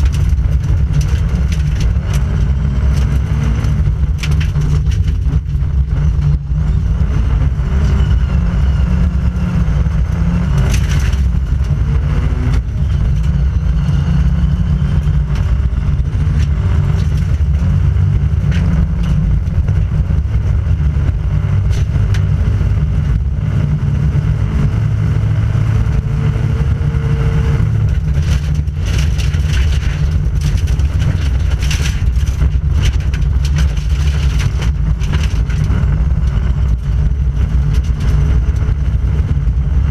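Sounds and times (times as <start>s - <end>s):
gravel knocking underbody: 0.0s - 8.4s, 9.3s - 23.6s, 25.9s - 39.9s
rally car engine under load: 0.0s - 39.9s
road noise: 0.0s - 39.9s.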